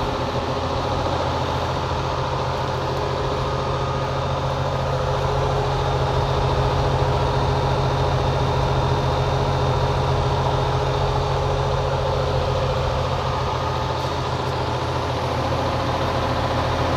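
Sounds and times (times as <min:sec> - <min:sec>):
condenser unit hum: 0:00.0 - 0:16.9.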